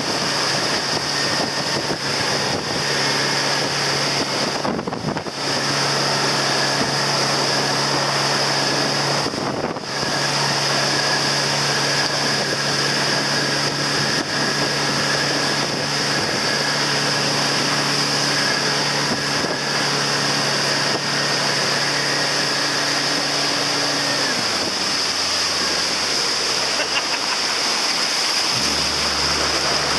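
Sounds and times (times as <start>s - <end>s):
wind on microphone: 0.0s - 26.4s
boat wake water: 0.0s - 29.9s
motorboat engine running: 0.0s - 29.9s.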